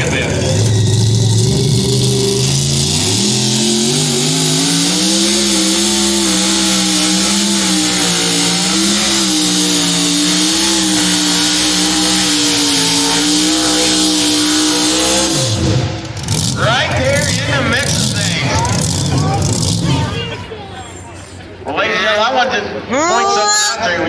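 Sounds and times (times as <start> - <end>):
pulling tractor engine at full throttle: 0.0 - 22.9.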